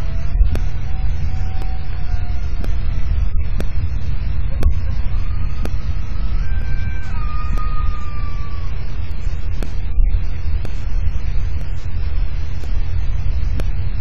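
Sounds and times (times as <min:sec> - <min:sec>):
wind buffeting microphone: 0:00.0 - 0:13.8
sharp clicks: 0:00.0 - 0:14.0.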